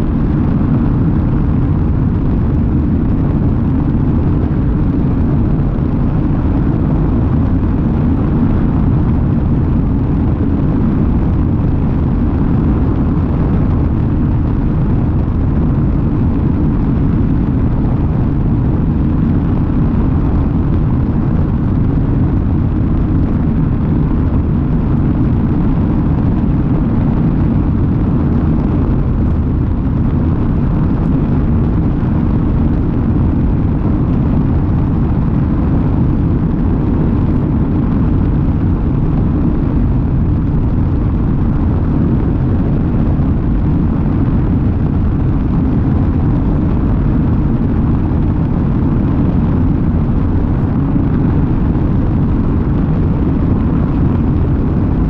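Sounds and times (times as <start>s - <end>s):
wind rumble: 0.0s - 55.0s.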